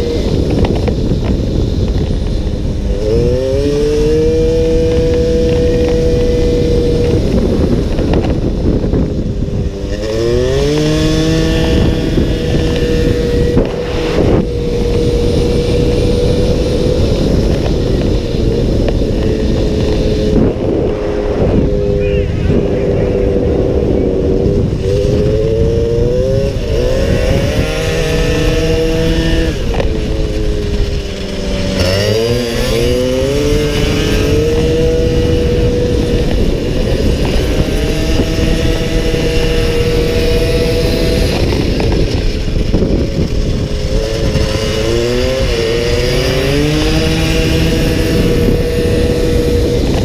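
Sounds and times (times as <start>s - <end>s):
racing motorcycle engine: 0.0s - 50.0s
wind rumble on microphone: 0.0s - 50.0s.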